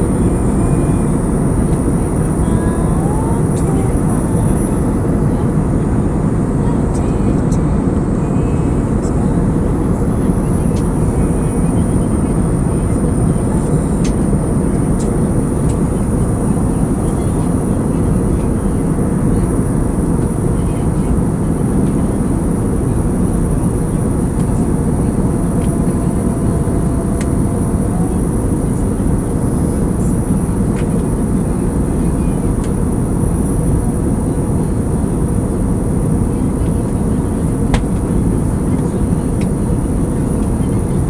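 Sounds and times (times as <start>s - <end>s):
airliner engine rumble: 0.0s - 41.0s
faint high whine: 0.0s - 41.0s.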